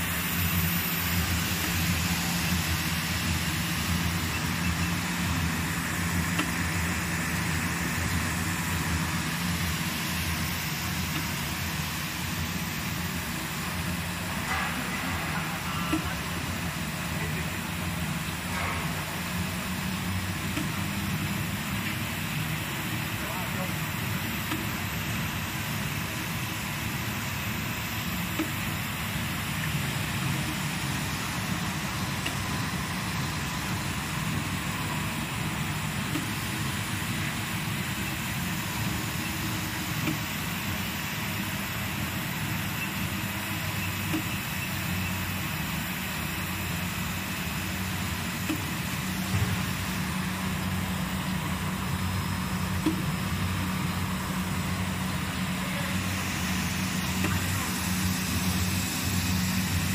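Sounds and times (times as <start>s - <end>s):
faint high whine: 0.0s - 59.9s
machine hum: 0.0s - 59.9s.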